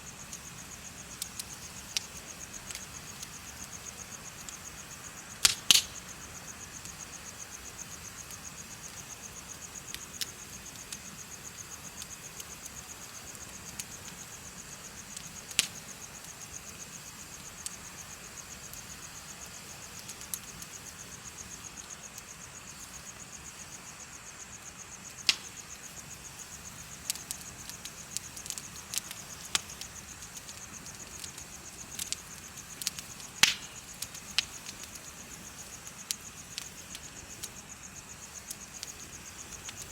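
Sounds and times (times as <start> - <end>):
insects trilling: 0.0 - 39.9
bonfire crackling and popping: 0.1 - 39.9.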